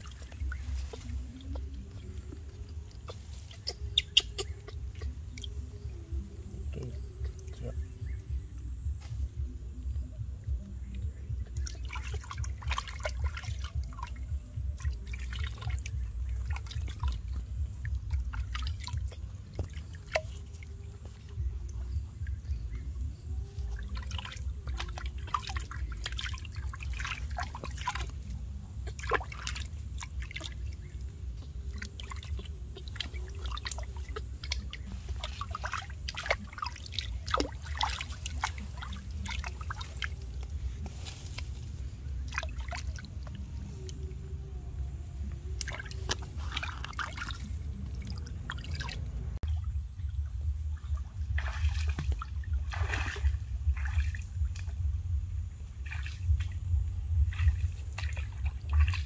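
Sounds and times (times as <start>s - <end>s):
low rumble: 0.0s - 59.0s
water splashing and dripping: 0.0s - 59.0s.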